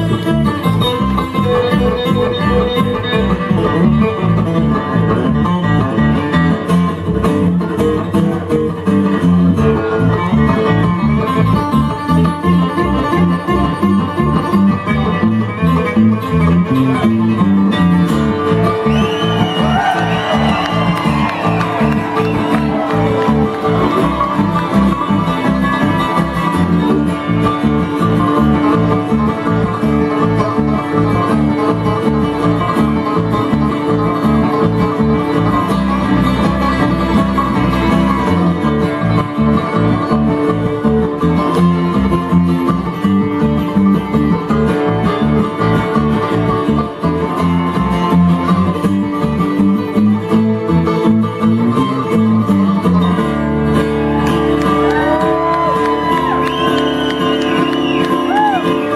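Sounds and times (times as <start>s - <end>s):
bluegrass band playing: 0.0s - 58.9s
fast banjo picking: 0.0s - 58.9s.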